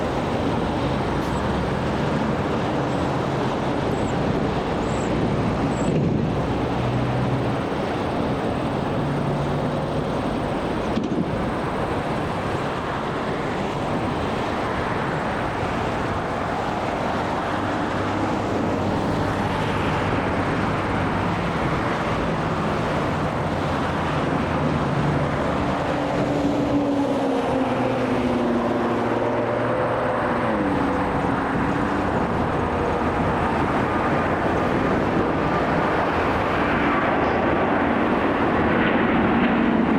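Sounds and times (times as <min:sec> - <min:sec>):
jet airliner taking off: 0:00.0 - 0:39.9.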